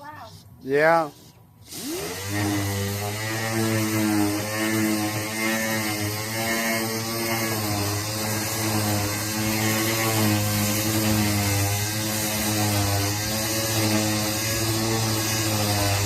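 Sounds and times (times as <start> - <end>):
motor humming: 1.7 - 16.0.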